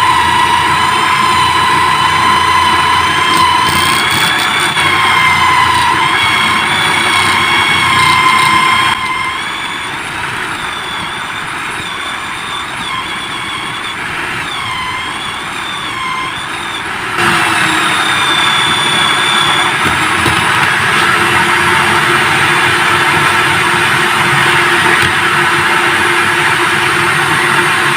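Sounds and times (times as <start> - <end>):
electric drill motor whining: 0.0 - 27.9.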